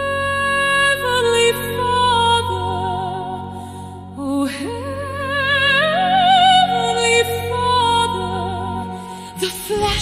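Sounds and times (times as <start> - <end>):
person singing with vibrato: 0.0 - 10.0
soft sustained accompaniment: 0.0 - 10.0.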